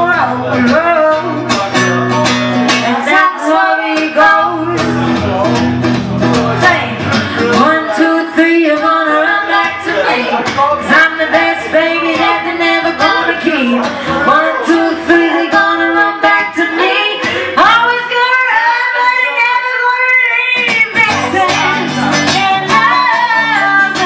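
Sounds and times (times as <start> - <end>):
women singing: 0.0 - 1.7, 2.7 - 5.2, 6.6 - 24.0
acoustic guitar strumming: 0.0 - 24.0.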